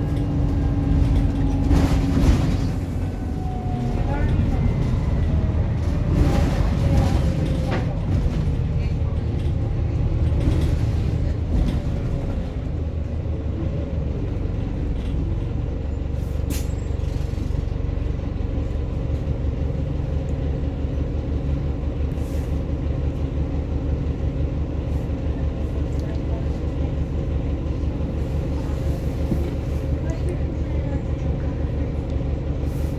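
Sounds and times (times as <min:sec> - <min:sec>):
bus engine low rumble: 0:00.0 - 0:32.9.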